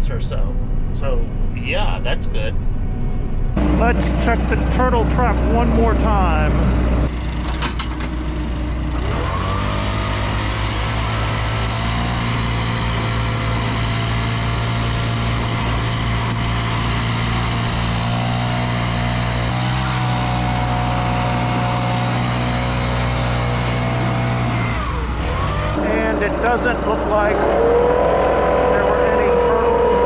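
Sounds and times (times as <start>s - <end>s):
combine engine running: 0.0s - 30.0s.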